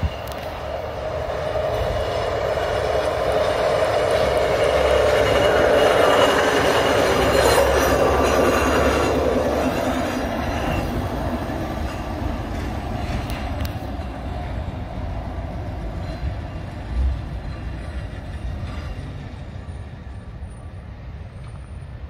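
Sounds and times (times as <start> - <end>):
truck rolling on rails: 0.0 - 22.0.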